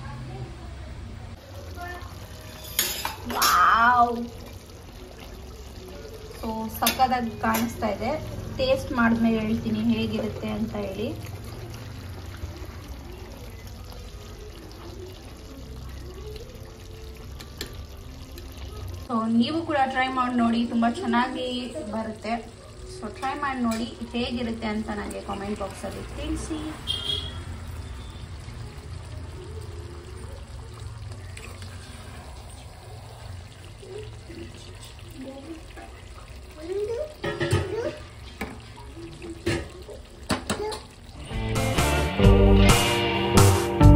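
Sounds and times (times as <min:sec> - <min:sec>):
gravy pouring and splashing: 0:01.4 - 0:42.7.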